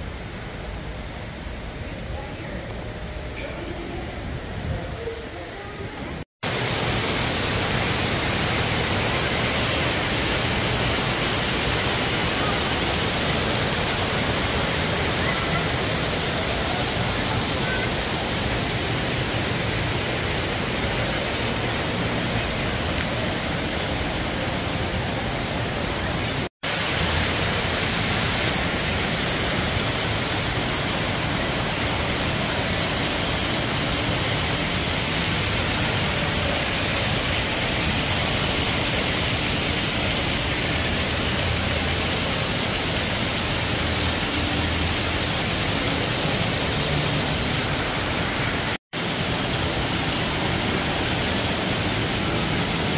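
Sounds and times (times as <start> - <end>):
fountain water splashing into pool: 6.4 - 52.9.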